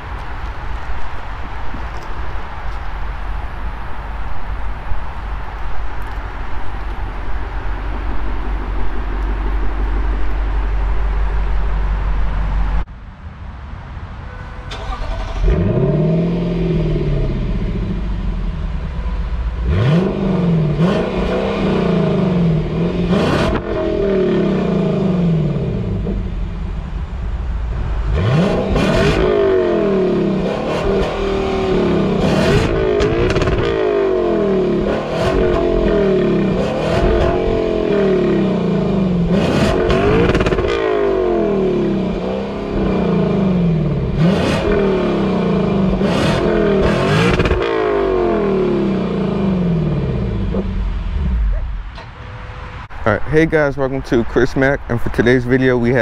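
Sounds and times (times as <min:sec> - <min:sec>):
car engine revving: 0:05.2 - 0:12.9, 0:14.7 - 0:56.0.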